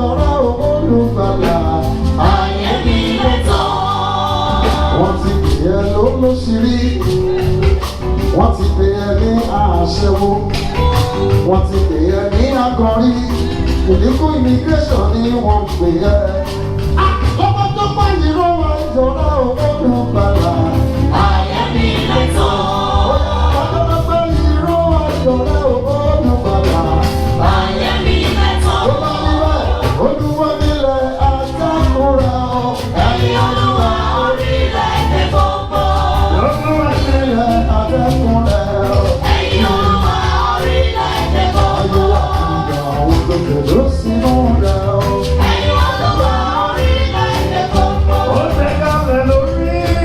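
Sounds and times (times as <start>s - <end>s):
choir singing gospel: 0.0s - 50.0s
heavy bass and percussion: 0.0s - 50.0s.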